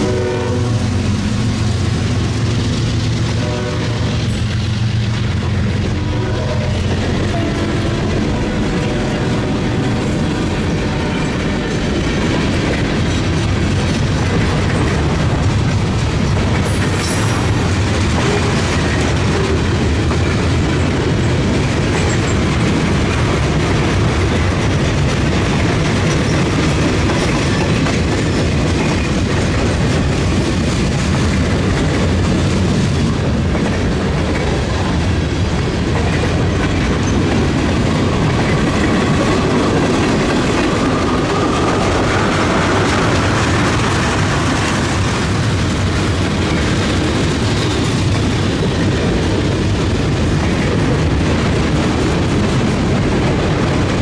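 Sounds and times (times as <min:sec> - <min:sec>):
train wheels rumbling on rail: 0:00.0 - 0:54.0
wheels clacking over rail joints: 0:00.0 - 0:54.0.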